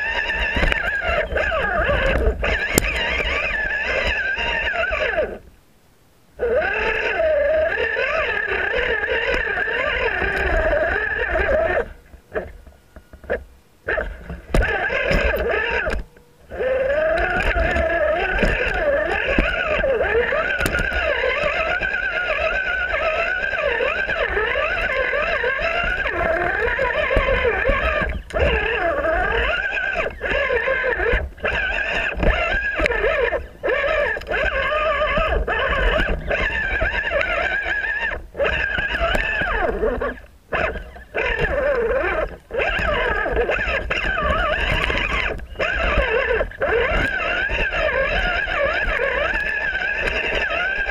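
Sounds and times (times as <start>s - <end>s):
electric motor whining: 0.0s - 5.5s, 6.4s - 50.9s.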